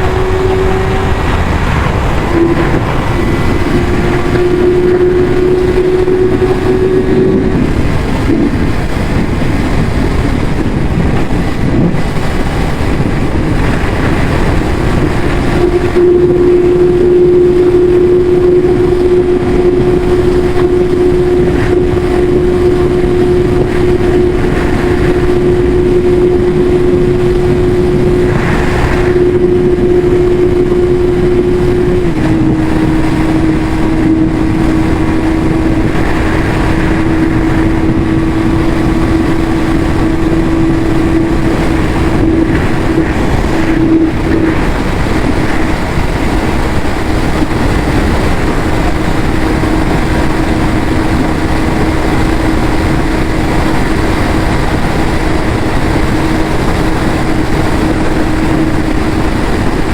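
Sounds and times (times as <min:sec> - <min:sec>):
dense rushing noise: 0:00.0 - 0:59.9
motorcycle engine high-revving: 0:00.0 - 0:59.9.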